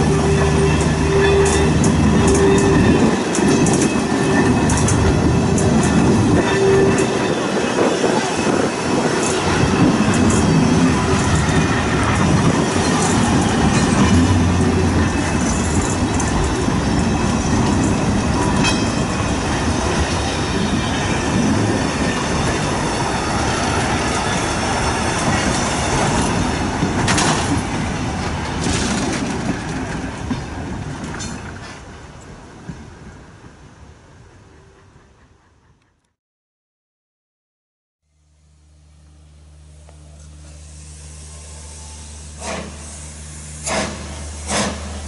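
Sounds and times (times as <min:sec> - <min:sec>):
train wheels rumbling over track: 0:00.0 - 0:36.0, 0:39.6 - 0:45.0.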